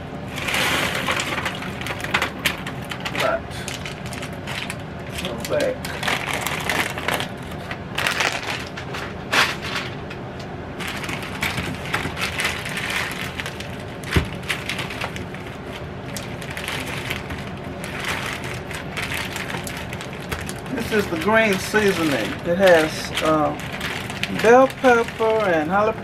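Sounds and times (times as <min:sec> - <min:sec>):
frozen food pieces rattling: 0:00.3 - 0:10.0, 0:10.8 - 0:26.0
plastic packaging crinkling: 0:00.3 - 0:10.1, 0:10.8 - 0:26.0.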